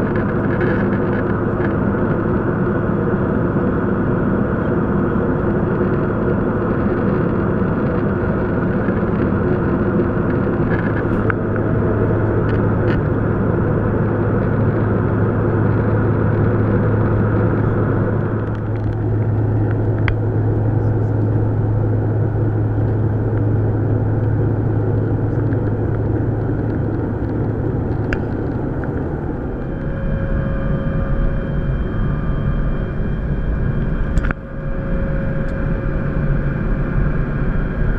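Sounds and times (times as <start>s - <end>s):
jet engines droning: 0.0s - 37.9s
low cabin hum: 0.0s - 37.9s.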